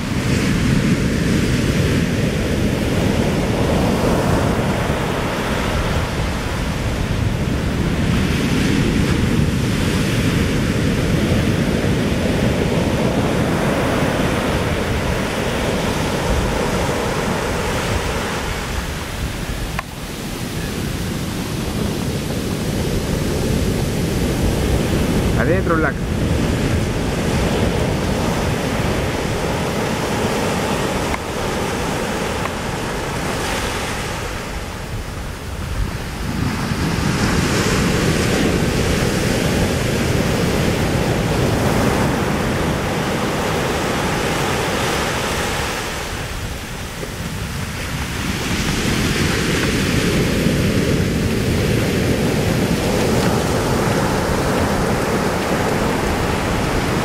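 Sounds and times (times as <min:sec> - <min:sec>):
ocean surf breaking: 0:00.0 - 0:57.0
wind on microphone: 0:00.0 - 0:57.0.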